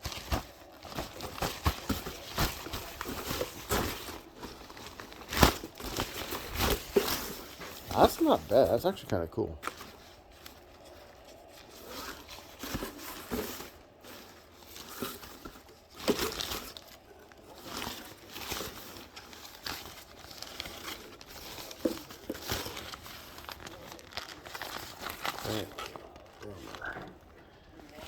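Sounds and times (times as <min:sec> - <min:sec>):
nylon tarp rustling: 0:00.0 - 0:27.1.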